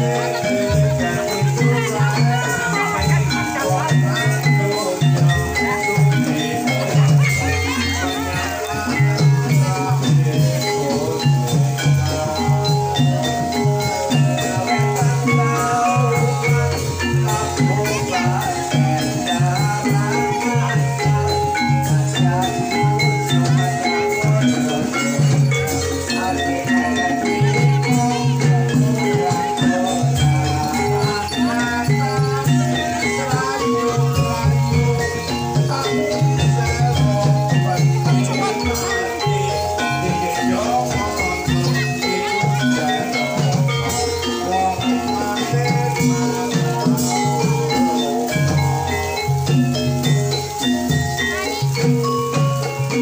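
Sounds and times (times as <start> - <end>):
drumming: 0.0 - 53.0
gamelan-style percussion music: 0.0 - 53.0
metallophone notes: 0.0 - 53.0
shaken rattle: 0.0 - 53.0.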